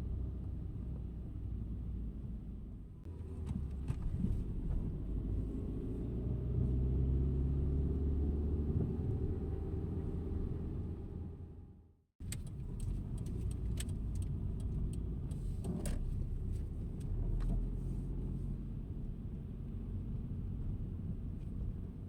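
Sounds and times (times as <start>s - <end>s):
car rumbling on road: 0.0s - 22.0s.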